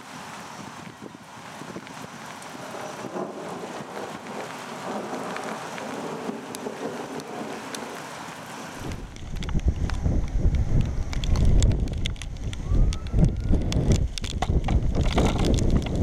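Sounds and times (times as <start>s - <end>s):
heavy rain falling: 0.0s - 16.0s
raindrops ticking near microphone: 0.0s - 16.0s.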